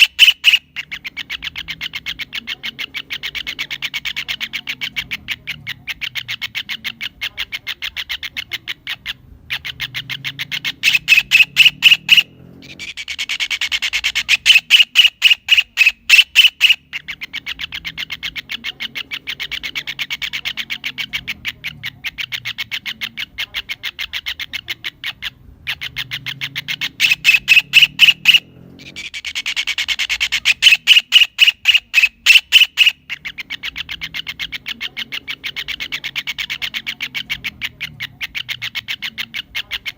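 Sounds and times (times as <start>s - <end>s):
kingfisher chattering call: 0.0s - 39.9s.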